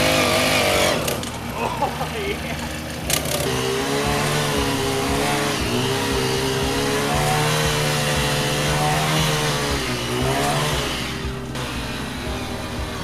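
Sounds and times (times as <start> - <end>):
small gasoline engine running hard: 0.0 - 13.0.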